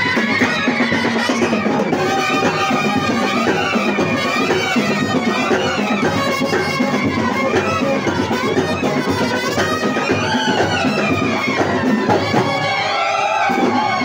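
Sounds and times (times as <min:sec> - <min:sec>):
snare drums: 0:00.0 - 0:14.0
trumpets playing melody: 0:00.0 - 0:14.0.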